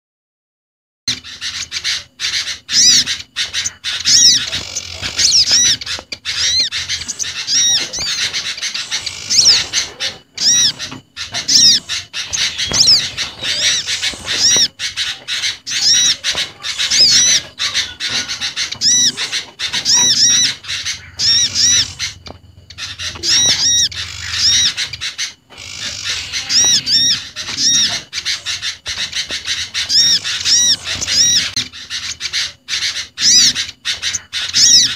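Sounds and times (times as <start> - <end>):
songbirds chirping: 1.1 - 34.9.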